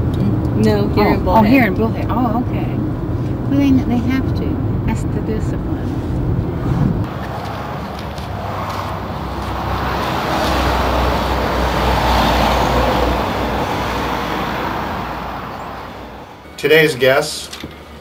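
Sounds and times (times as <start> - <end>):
car road noise: 0.0 - 18.0.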